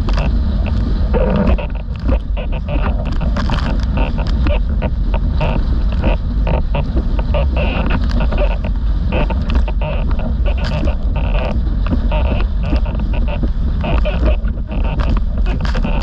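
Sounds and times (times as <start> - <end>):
board rushing over choppy water: 0.0 - 16.0
wind buffeting microphone: 0.0 - 16.0.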